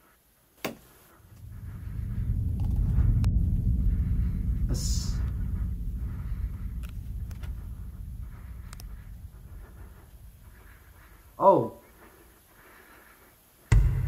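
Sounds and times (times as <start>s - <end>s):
low rumble: 1.2s - 12.4s, 13.7s - 14.0s.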